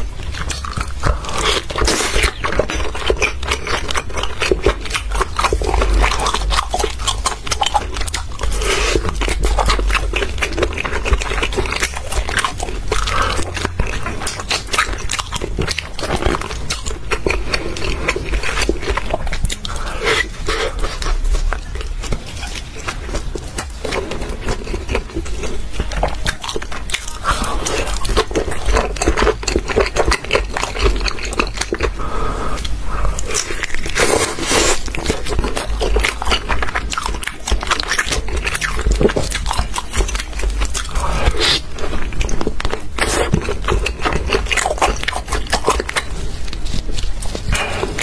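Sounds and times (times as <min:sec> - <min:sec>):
wet chewing and smacking: 0:00.0 - 0:48.0.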